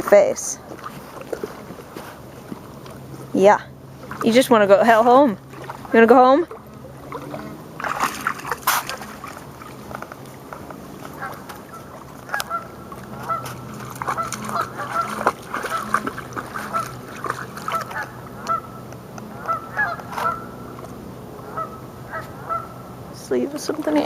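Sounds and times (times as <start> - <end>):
water birds calling: 0.0 - 24.0.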